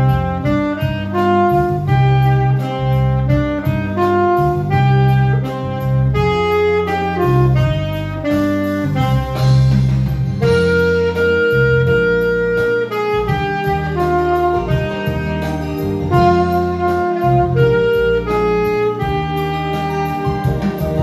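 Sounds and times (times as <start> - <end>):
alto saxophone melody: 0.0 - 21.0
low bass line: 0.0 - 21.0.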